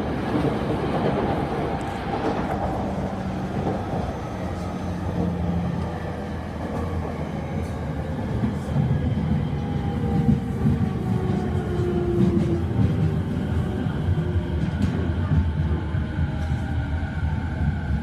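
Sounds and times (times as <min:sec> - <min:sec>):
wheels rumbling on rails: 0:00.0 - 0:18.0.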